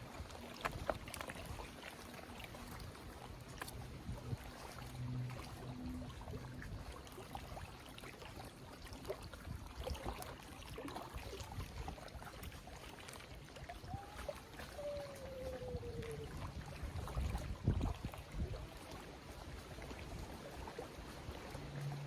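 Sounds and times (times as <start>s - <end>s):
water lapping against kayak: 0.0s - 22.0s.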